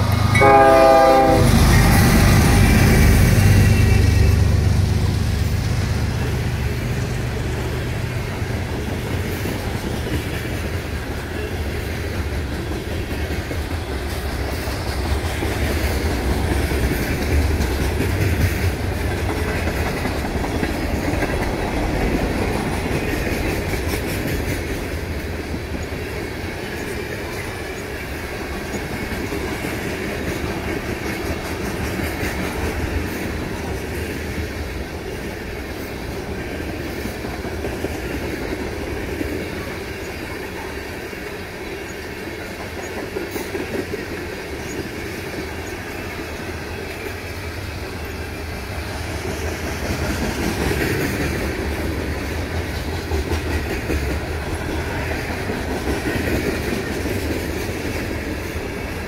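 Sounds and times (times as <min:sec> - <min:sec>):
freight train rolling past: 0:00.0 - 0:59.0
wheels clicking over rail joints: 0:07.1 - 0:41.3, 0:41.9 - 0:59.0.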